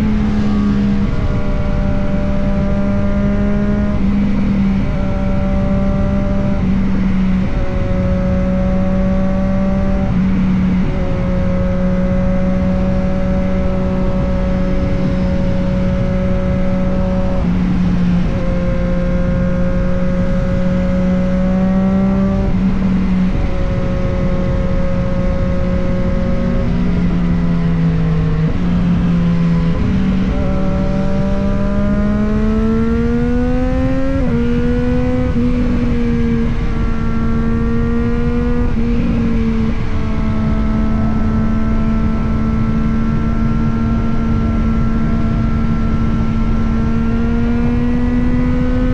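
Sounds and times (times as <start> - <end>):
motorcycle engine and exhaust: 0.0 - 48.9
wind noise: 0.0 - 48.9.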